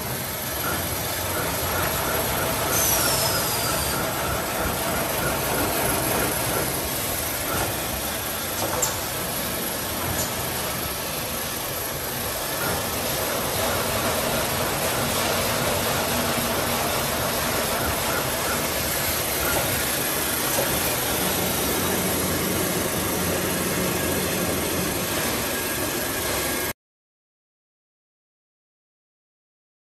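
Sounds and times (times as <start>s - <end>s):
band saw cutting machine running: 0.0s - 26.7s.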